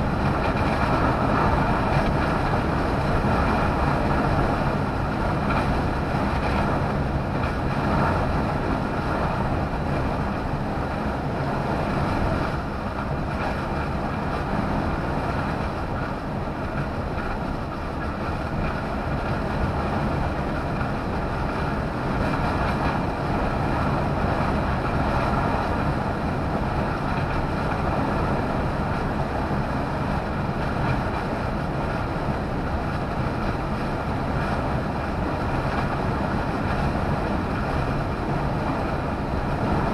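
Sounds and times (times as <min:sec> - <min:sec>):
engine drone: 0:00.0 - 0:39.9
tyre and wind noise: 0:00.0 - 0:39.9.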